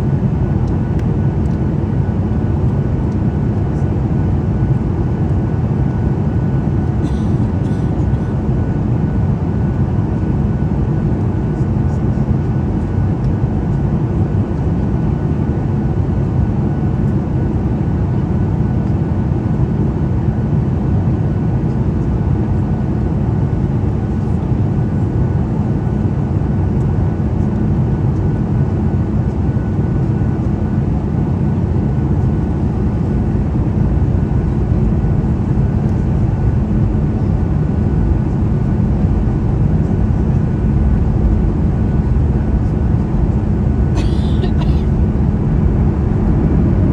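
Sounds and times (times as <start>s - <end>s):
jet engine and airflow rumble: 0.0s - 46.9s.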